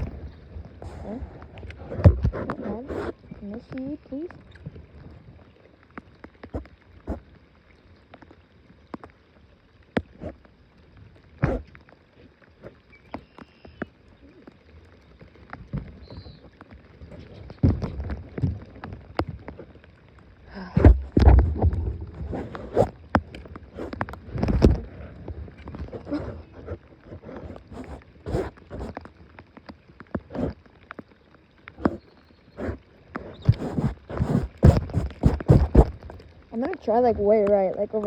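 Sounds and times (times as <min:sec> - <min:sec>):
knocks and clunks in a boat: 0:00.0 - 0:05.3, 0:11.3 - 0:11.8, 0:12.5 - 0:31.0, 0:31.7 - 0:38.0.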